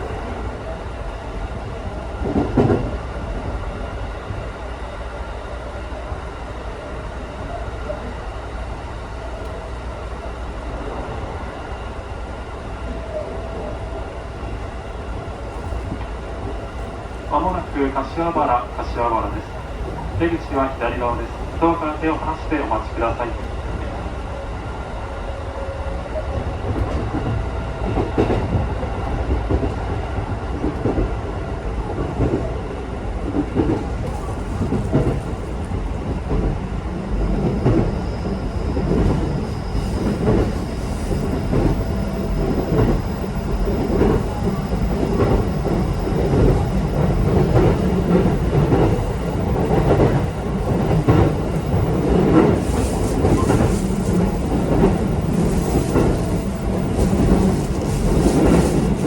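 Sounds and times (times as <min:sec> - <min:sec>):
train rumble inside passenger car: 0:00.0 - 0:59.0.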